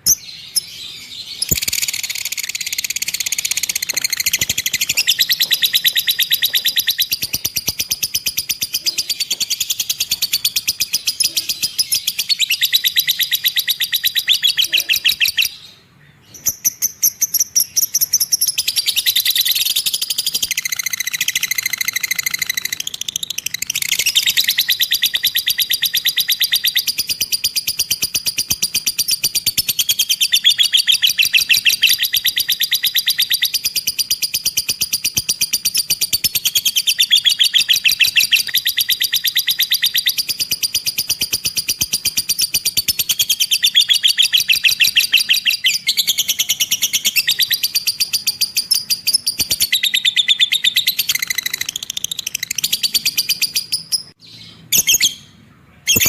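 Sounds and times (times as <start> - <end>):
lovebird chattering trill: 0.0 - 15.6, 16.4 - 56.0.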